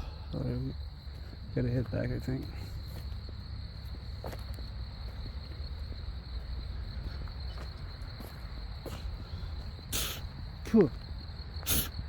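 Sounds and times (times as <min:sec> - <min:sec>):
insects buzzing: 0:00.0 - 0:12.0
faint footfalls on trail: 0:00.8 - 0:09.9, 0:10.6 - 0:11.6.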